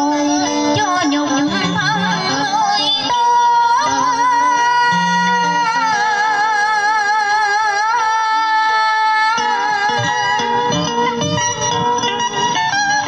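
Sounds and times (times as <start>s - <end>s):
plucked-string accompaniment: 0.0s - 13.0s.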